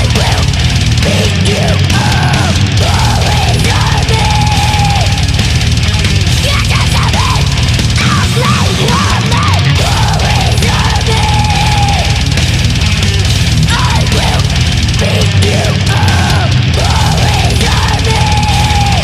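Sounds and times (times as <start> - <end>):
person singing and shouting: 0.0 - 5.3, 6.4 - 12.2, 13.7 - 19.0
rock band playing: 0.0 - 19.0.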